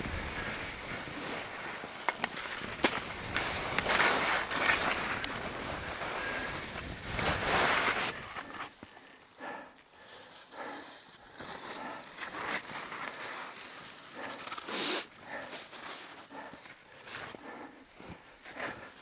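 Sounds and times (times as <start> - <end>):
skis scraping over snow: 0.0 - 9.0, 10.3 - 19.0.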